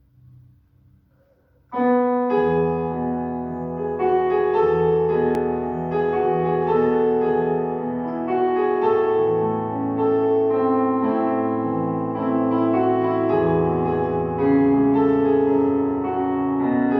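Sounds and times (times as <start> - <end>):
slow keyboard chords: 1.8 - 16.9.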